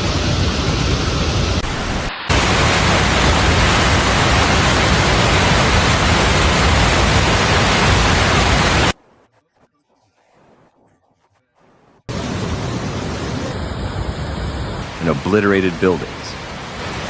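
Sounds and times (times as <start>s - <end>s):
heavy rain pouring: 0.0s - 9.0s, 12.1s - 17.0s.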